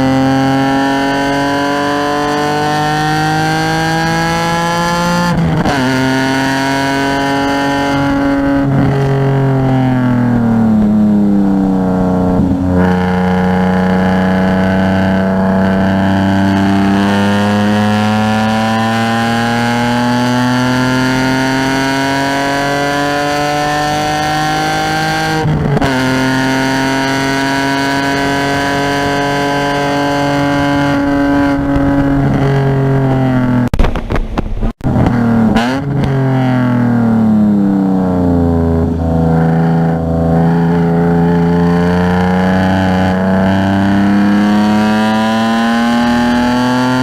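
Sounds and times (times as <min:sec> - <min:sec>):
car engine under load: 0:00.0 - 0:47.0.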